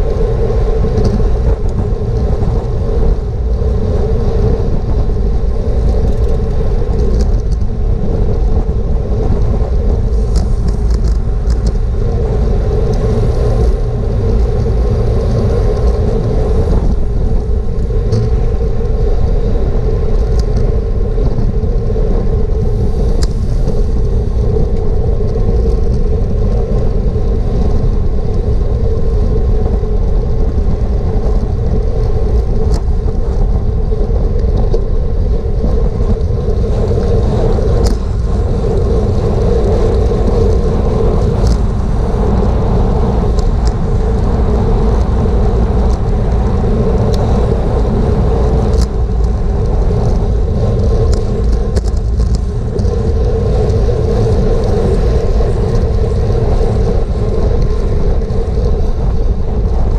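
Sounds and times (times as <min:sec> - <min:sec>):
constant hum: 0:00.0 - 0:59.9
wind roaring over microphone: 0:00.0 - 0:59.9.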